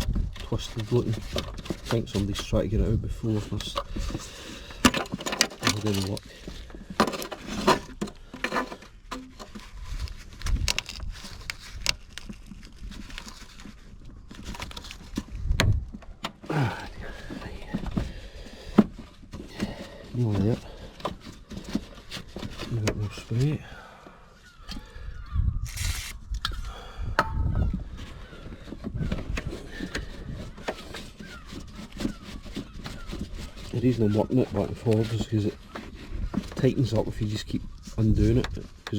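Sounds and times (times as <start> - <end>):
hand tools clicking and scraping metal: 0.0 - 2.6, 3.2 - 23.6, 25.7 - 26.6, 27.2 - 38.9.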